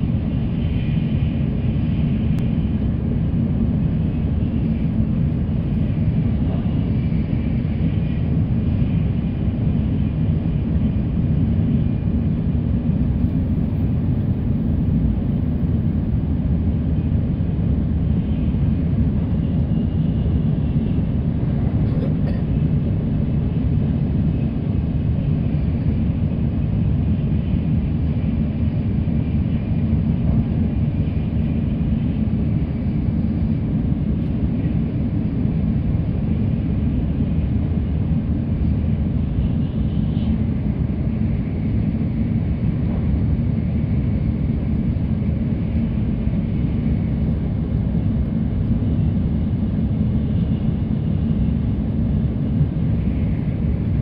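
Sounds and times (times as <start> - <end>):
train rumble inside passenger car: 0.0 - 54.0.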